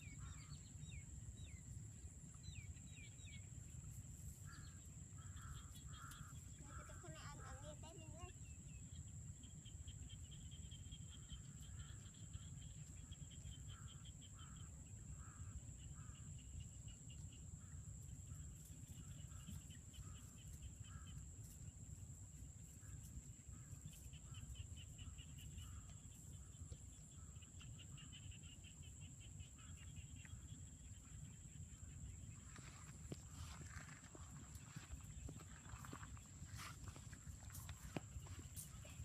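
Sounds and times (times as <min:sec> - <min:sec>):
insects trilling: 0:04.2 - 0:21.7, 0:22.6 - 0:39.0.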